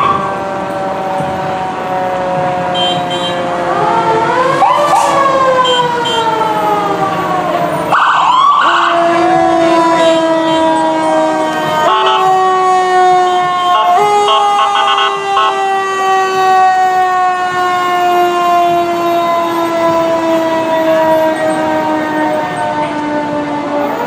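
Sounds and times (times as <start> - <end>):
emergency sirens wailing: 0.0 - 24.0.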